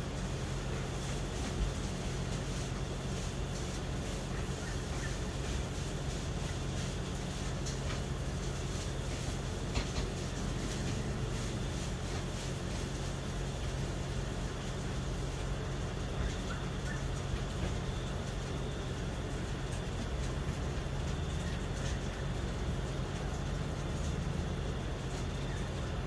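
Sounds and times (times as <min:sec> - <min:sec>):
low city hum: 0:00.0 - 0:26.0.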